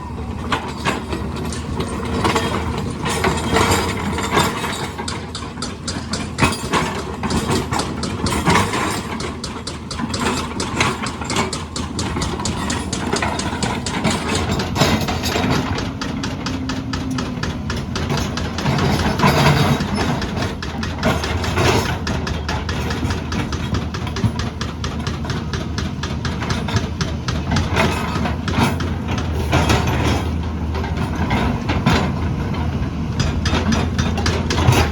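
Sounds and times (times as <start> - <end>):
heavy machine engine clattering: 0.0 - 34.9.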